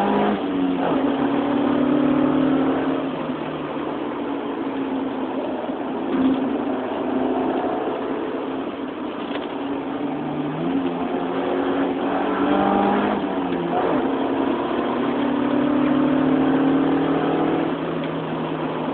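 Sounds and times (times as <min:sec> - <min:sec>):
car engine pulling hard: 0:00.0 - 0:18.9
road and tyre noise: 0:00.0 - 0:18.9.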